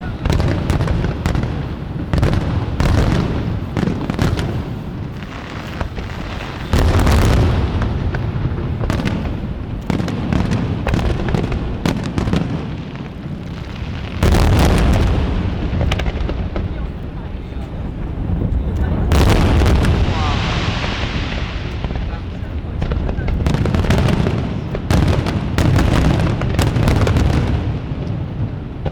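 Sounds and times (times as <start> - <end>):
fireworks exploding: 0.0 - 28.9.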